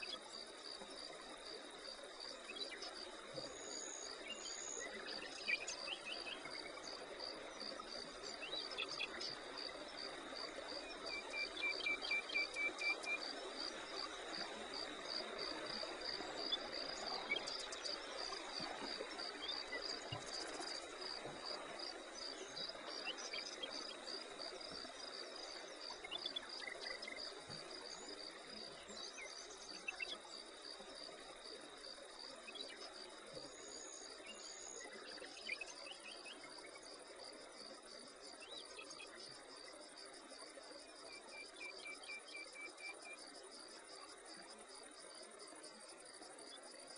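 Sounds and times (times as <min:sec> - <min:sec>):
insects chirping: 0:00.0 - 0:46.9.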